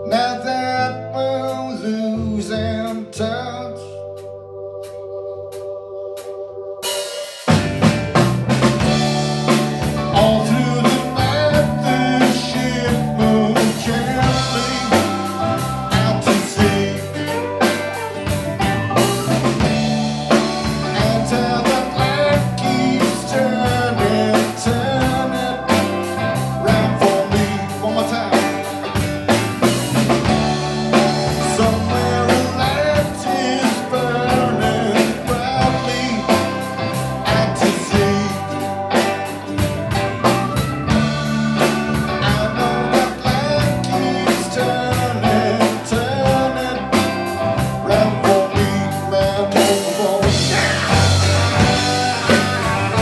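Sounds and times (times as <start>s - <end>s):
live rock band playing: 4.1s - 53.0s.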